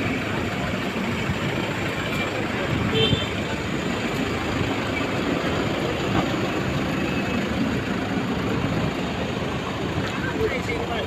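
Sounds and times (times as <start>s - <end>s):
traffic engine rumble: 0.0s - 11.0s.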